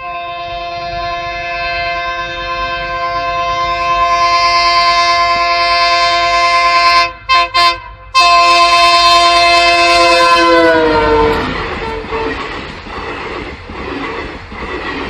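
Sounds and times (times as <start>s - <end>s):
train horn blasts: 0.0s - 12.6s
moving train rumble: 0.0s - 15.0s.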